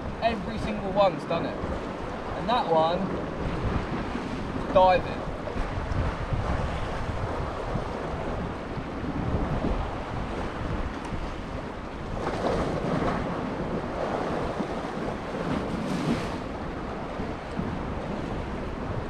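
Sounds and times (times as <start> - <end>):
surf washing against rocks: 0.0 - 19.0
wind buffeting microphone: 0.0 - 19.0.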